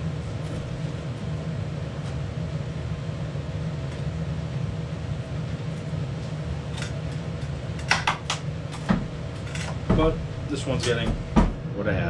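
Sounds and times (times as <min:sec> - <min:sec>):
machine hum with whine: 0:00.0 - 0:12.0.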